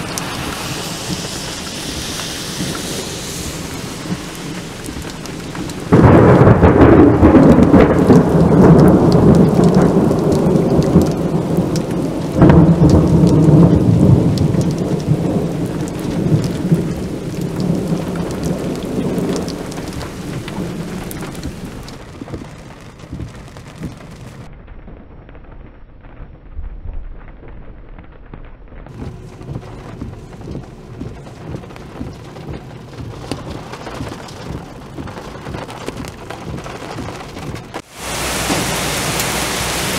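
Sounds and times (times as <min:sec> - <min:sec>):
rain falling: 0:00.0 - 0:39.9
thunder crack and rumble: 0:00.0 - 0:39.9.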